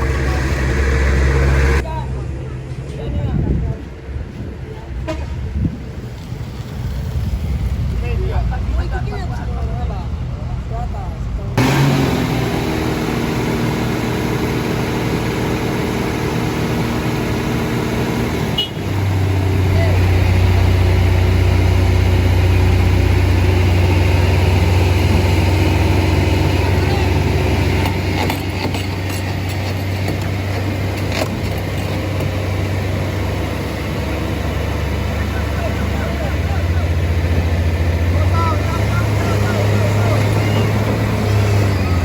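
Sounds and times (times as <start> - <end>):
diesel truck engine humming: 0.0 - 2.8, 5.8 - 42.0.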